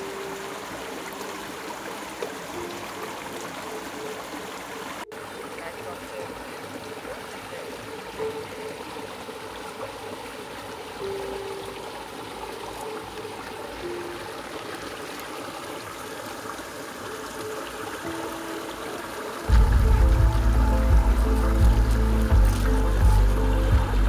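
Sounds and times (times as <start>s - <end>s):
stream water flowing: 0.0s - 24.0s.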